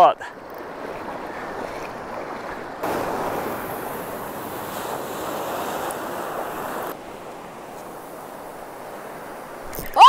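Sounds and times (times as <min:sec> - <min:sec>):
ocean surf washing: 0:00.0 - 0:10.0.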